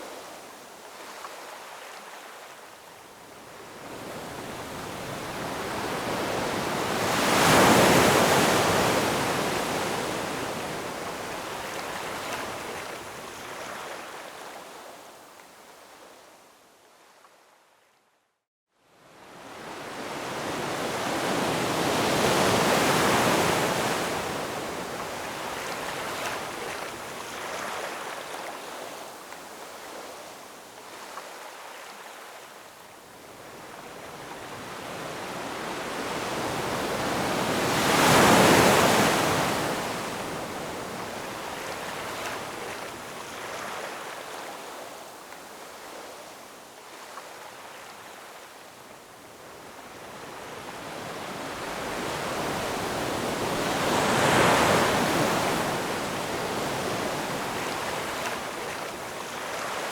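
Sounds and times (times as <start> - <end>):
ocean waves crashing on shore: 3.5 - 14.5, 19.2 - 32.3, 33.3 - 48.5, 49.4 - 59.9.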